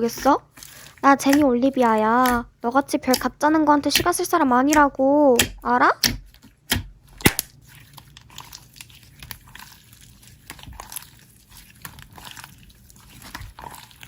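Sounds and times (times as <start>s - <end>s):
slime squishing with wet crackles: 0.0s - 14.0s.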